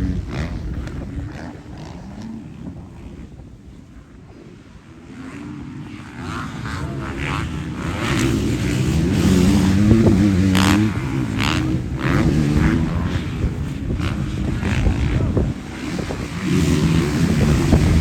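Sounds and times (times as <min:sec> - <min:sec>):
motocross bike engines revving: 0:00.0 - 0:18.0
wind buffeting microphone: 0:00.0 - 0:18.0.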